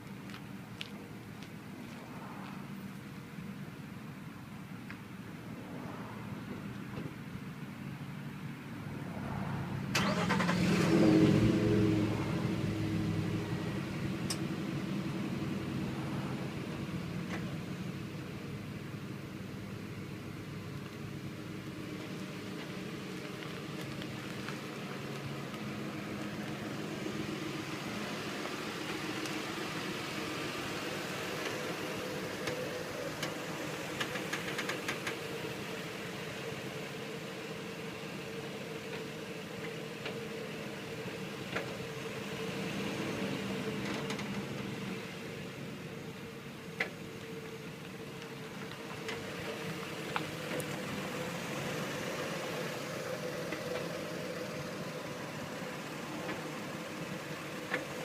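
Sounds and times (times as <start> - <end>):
car engine droning: 0.0 - 58.0.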